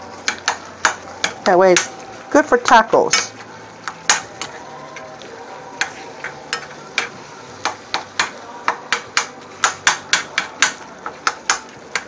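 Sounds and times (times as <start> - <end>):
utensil scraping cast iron skillet: 0.0 - 12.0.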